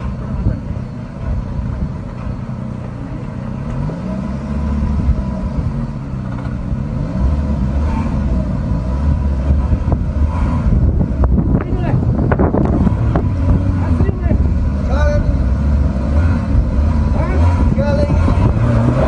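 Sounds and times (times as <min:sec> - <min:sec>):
deep low rumble: 0:00.0 - 0:19.0
van engine running: 0:00.0 - 0:19.0.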